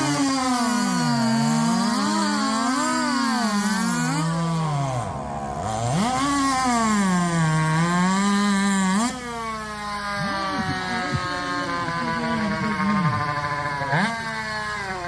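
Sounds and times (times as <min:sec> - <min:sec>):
chainsaw cutting through log: 0:00.0 - 0:15.0.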